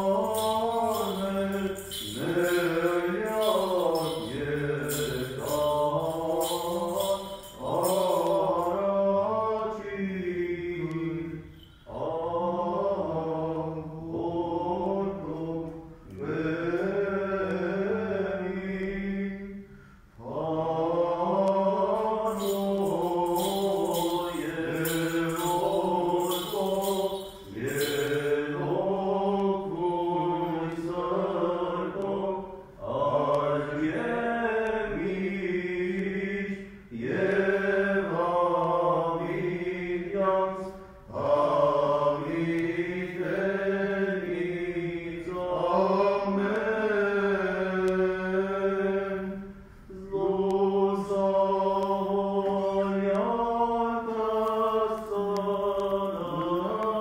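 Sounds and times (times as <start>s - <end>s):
man singing a liturgical chant: 0.0s - 57.0s.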